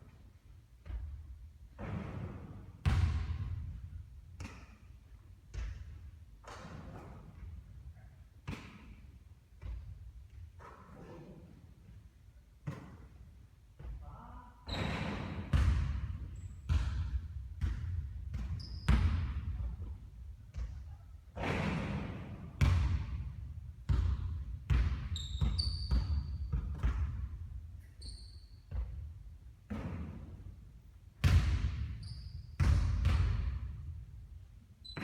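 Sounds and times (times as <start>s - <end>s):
basketball bouncing on court floor: 0.8s - 4.8s, 5.5s - 7.6s, 8.4s - 11.1s, 12.6s - 13.1s, 14.7s - 30.5s, 31.2s - 34.1s.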